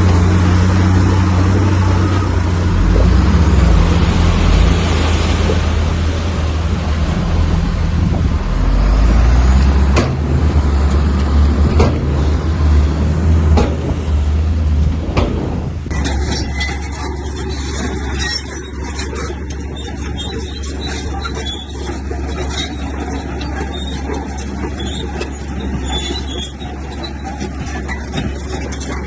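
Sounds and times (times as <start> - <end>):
bulldozer diesel engine: 0.0 - 29.0.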